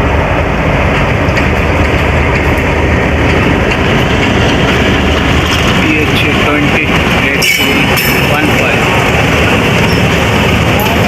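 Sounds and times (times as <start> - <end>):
train carriage rumbling: 0.0 - 11.0.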